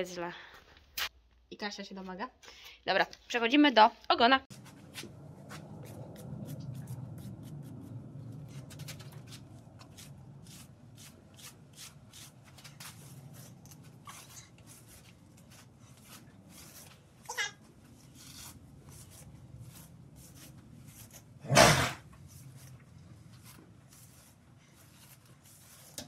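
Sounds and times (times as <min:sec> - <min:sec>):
hair rustling: 0:04.5 - 0:21.4, 0:22.0 - 0:26.0.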